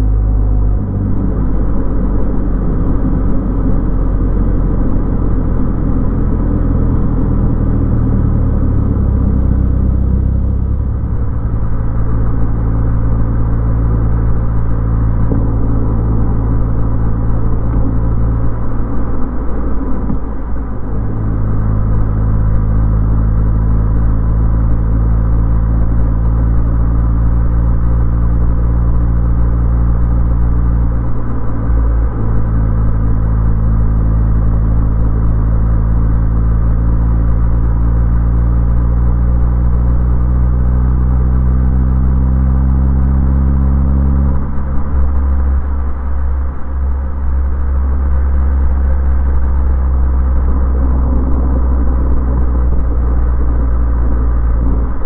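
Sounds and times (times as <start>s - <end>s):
car engine hum: 0.0s - 55.0s
road noise: 0.0s - 55.0s.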